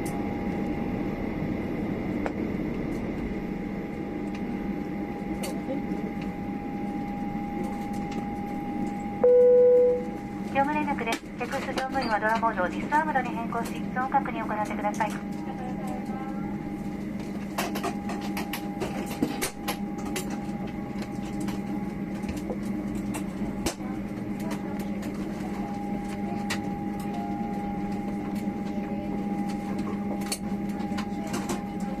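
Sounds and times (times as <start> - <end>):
ventilation hum: 0.0 - 32.0.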